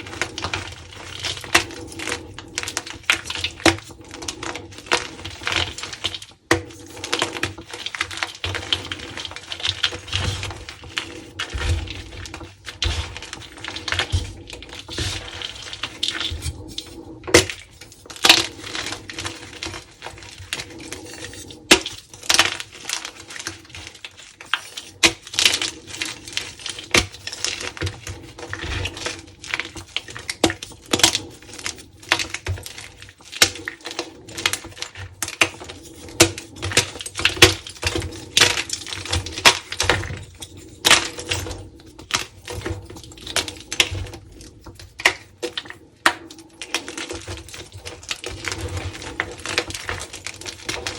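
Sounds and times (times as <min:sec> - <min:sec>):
chalk crumbling and crunching: 0:00.0 - 0:50.9.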